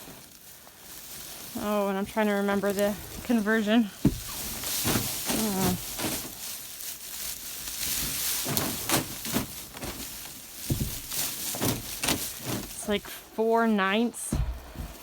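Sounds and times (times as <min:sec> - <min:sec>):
goats crunching feed: 0:00.0 - 0:15.0
goats rustling hay: 0:00.0 - 0:15.0.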